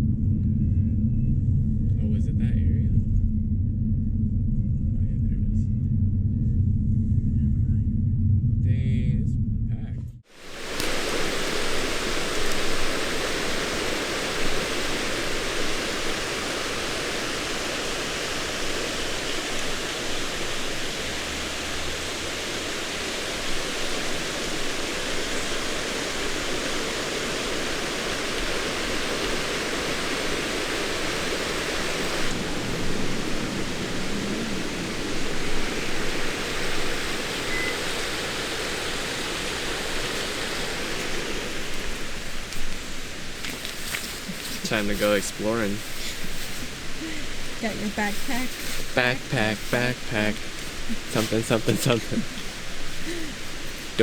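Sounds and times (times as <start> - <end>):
water noise: 10.2 - 54.0.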